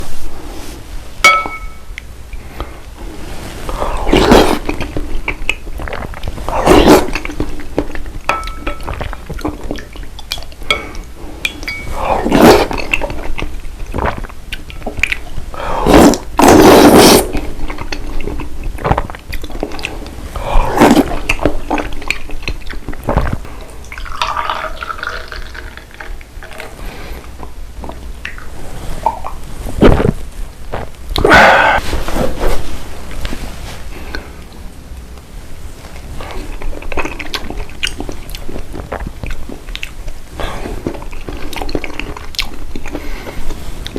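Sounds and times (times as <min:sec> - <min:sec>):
wet eating and drinking sounds: 0:02.3 - 0:32.6, 0:35.8 - 0:43.9.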